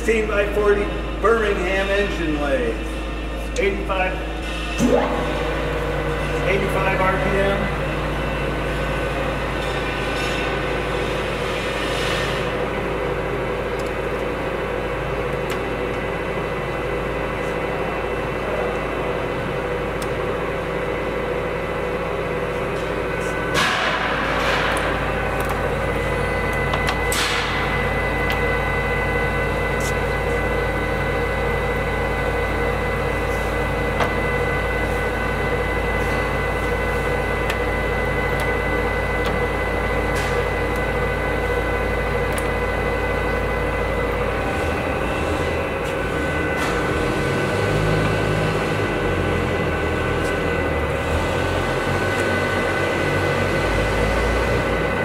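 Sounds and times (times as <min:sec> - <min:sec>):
lathe humming and whining: 0:00.0 - 0:55.0.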